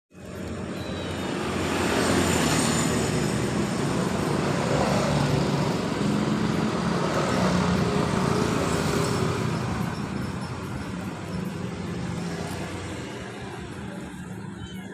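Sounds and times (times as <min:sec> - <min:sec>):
road traffic rumble: 0:00.1 - 0:14.9.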